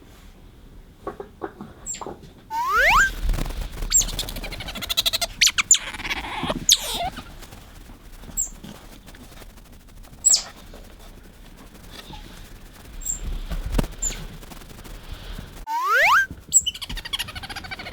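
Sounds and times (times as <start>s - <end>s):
otter squeaking and chirping: 1.9s - 17.9s
rapid clicking: 2.5s - 17.9s.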